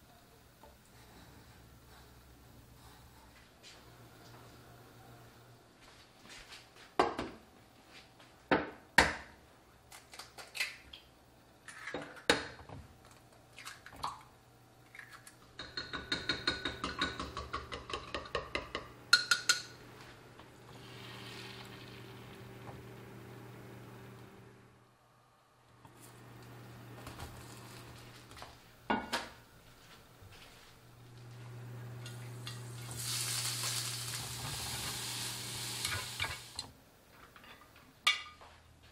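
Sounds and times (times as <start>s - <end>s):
faint steady hum: 0.0s - 8.5s, 10.8s - 38.9s.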